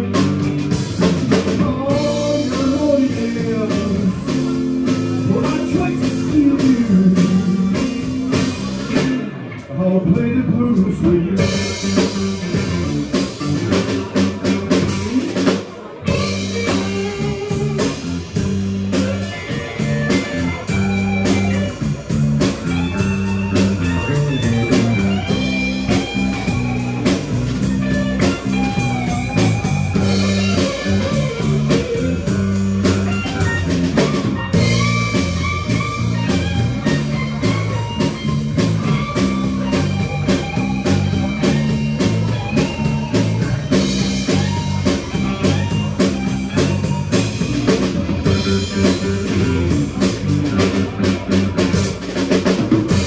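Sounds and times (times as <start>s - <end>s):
drum kit: 0.0s - 53.0s
electric bass: 0.0s - 53.0s
electric lead guitar: 0.0s - 53.0s.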